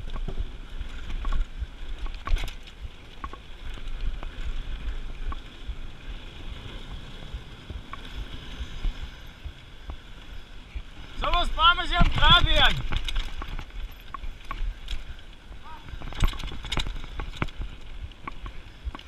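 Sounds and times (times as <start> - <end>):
bike rattling over planks: 0.0 - 19.0
bike tyres rumbling on boardwalk: 0.0 - 19.0.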